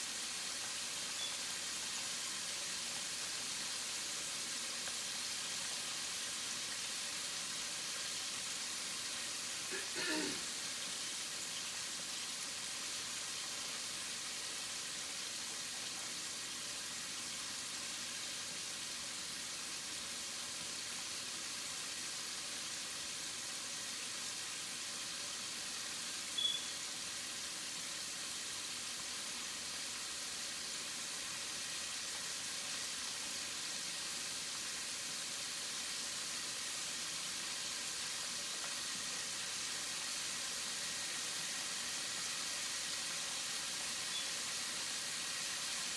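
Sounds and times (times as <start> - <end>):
food sizzling in a skillet: 0.0 - 45.9.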